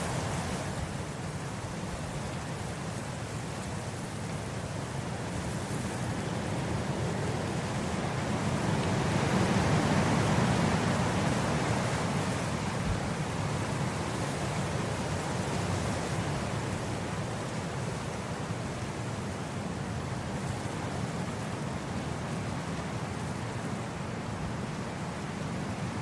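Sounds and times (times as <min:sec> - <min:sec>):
wind blowing across grass: 0:00.0 - 0:26.0.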